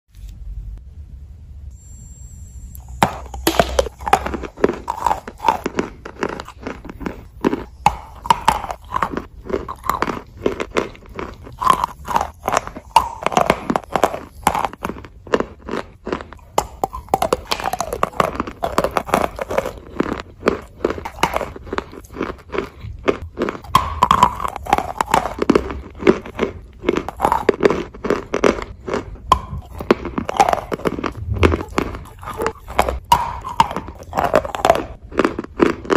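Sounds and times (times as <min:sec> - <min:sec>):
chewing wet chalk crunches: 0:02.8 - 0:35.9.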